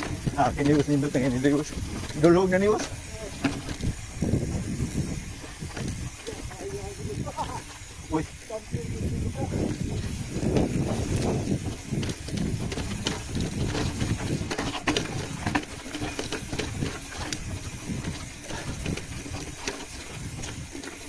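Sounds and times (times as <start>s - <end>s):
road noise rumble: 0.0s - 21.0s
small clicks and rattles: 0.0s - 21.0s
wind buffeting microphone: 0.0s - 21.0s.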